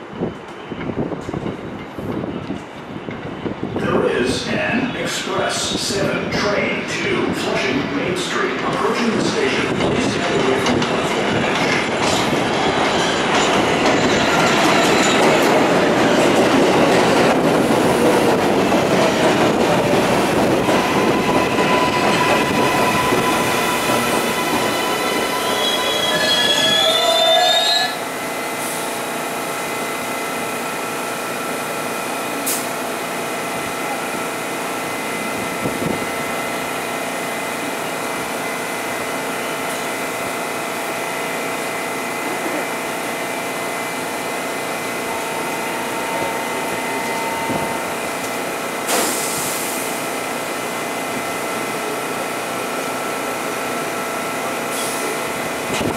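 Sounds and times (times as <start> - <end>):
standing train humming: 0.0 - 55.9
train wheels rumbling and squealing: 0.0 - 55.9.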